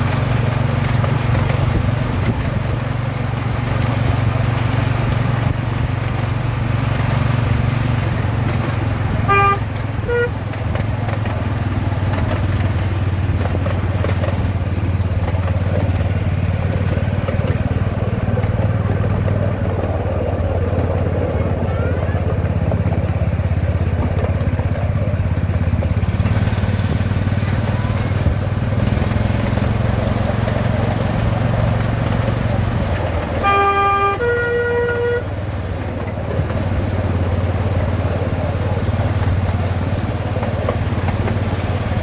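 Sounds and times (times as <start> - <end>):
miniature locomotive engine running: 0.0 - 42.0
wheels clattering on track: 0.0 - 42.0.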